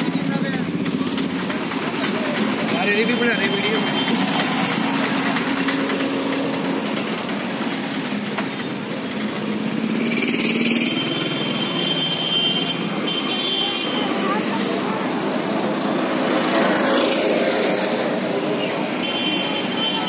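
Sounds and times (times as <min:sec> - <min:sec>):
vehicle engines idling and running: 0:00.0 - 0:20.0.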